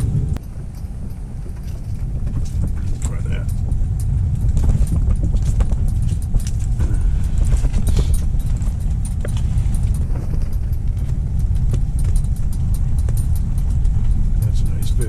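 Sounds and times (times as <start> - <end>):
light clicks and ticks: 0.0 - 15.0
wind buffeting microphone: 0.0 - 15.0.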